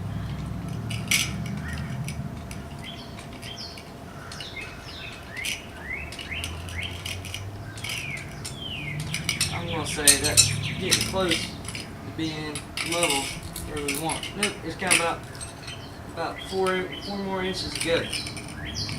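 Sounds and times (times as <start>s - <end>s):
high falling chirps: 0.0s - 18.9s
low steady rumble: 0.0s - 18.9s
metallic clinks of jack: 0.2s - 18.9s.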